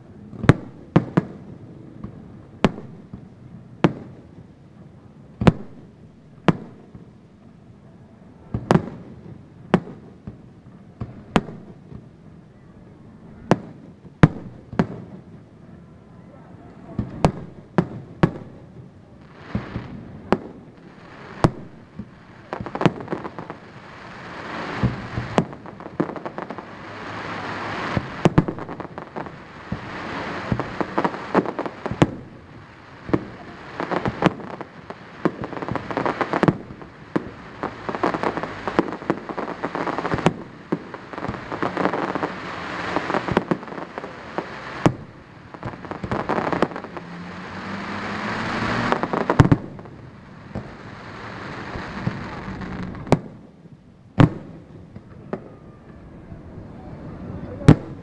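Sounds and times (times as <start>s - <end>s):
fireworks bangs: 0.0s - 58.0s
fireworks crackle: 0.0s - 58.0s.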